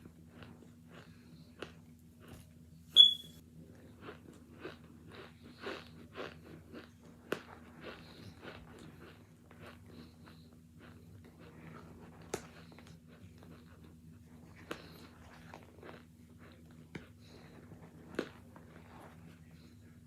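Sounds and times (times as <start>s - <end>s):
chewing and crunching: 0.0s - 2.7s, 3.6s - 20.0s.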